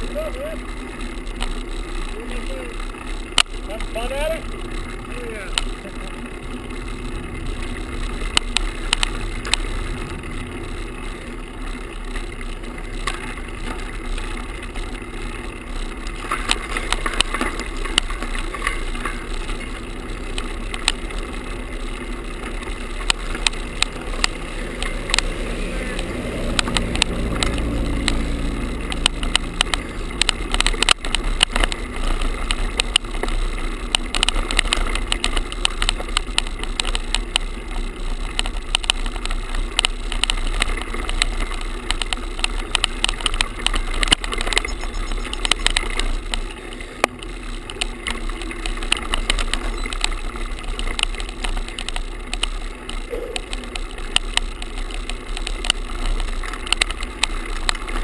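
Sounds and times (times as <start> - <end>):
camera rattling on bike handlebars: 0.0 - 58.0
tyres rumbling on rough pavement: 0.0 - 58.0.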